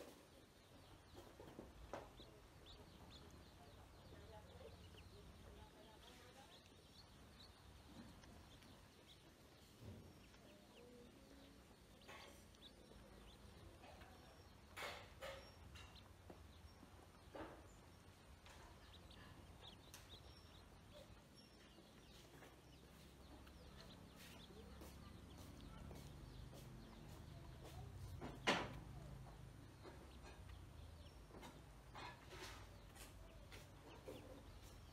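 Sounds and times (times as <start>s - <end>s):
ducklings peeping: 0.0s - 34.9s.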